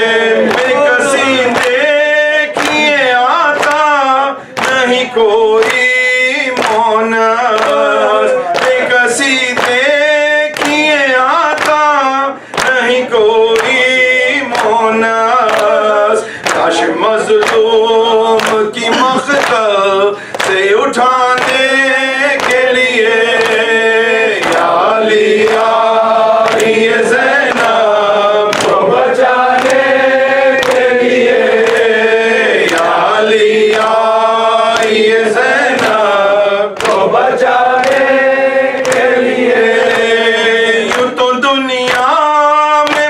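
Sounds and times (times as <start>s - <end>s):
man chanting through microphone: 0.0s - 43.0s.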